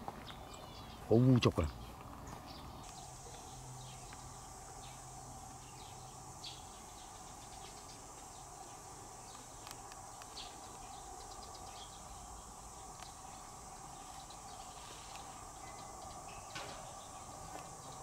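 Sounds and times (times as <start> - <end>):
bird chirps: 0.0 - 18.0
insect drone: 0.0 - 18.0.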